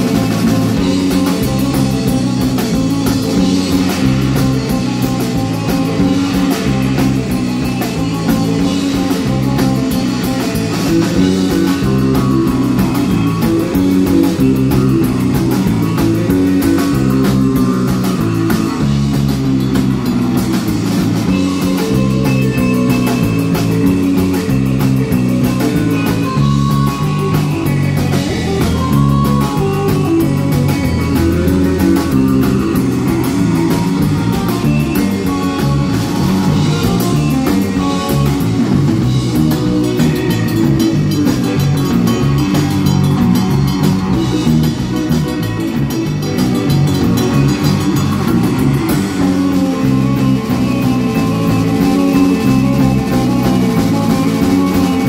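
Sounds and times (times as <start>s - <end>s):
drum kit: 0.0s - 55.0s
electric bass line: 0.0s - 55.0s
electric guitar: 0.0s - 55.0s.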